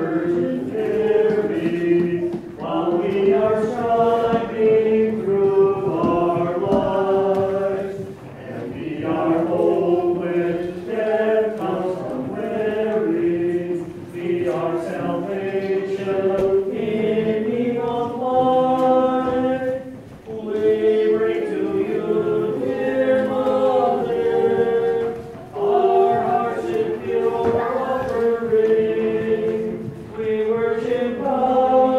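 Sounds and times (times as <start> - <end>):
group singing chant: 0.0 - 31.9.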